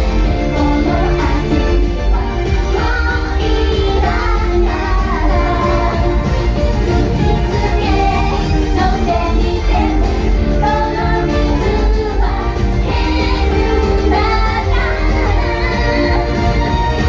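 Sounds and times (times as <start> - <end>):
pop backing track with heavy bass: 0.0 - 17.0
women singing: 0.0 - 17.0.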